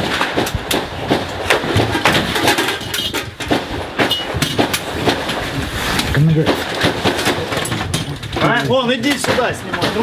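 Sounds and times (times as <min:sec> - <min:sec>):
sharp knocks and bangs: 0:00.0 - 0:10.0.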